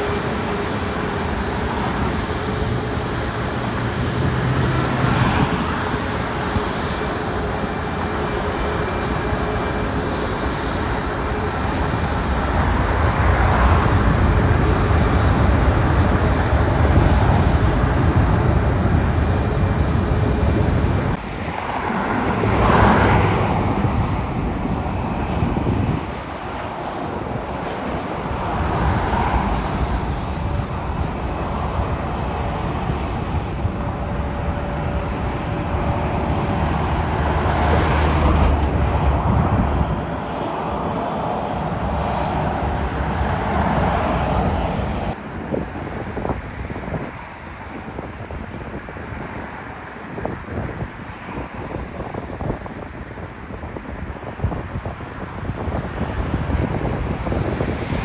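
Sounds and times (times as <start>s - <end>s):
road traffic roar: 0.0s - 58.0s
vehicles passing: 0.0s - 58.0s.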